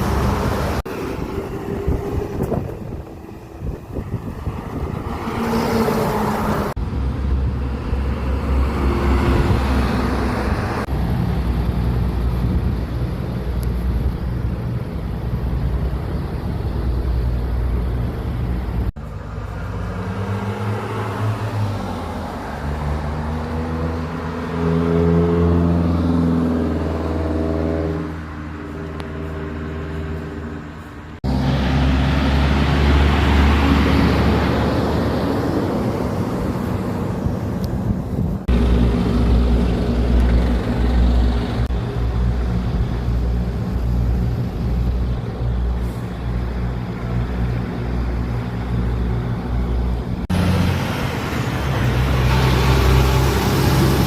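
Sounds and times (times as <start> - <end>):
truck engines running: 0.0 - 54.0.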